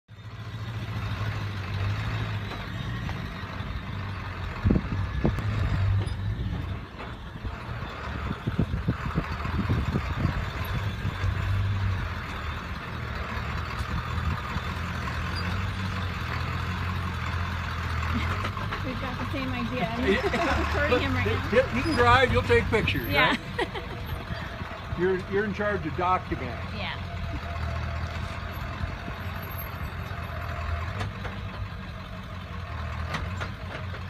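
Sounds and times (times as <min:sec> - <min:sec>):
van engine running: 0:00.1 - 0:34.0.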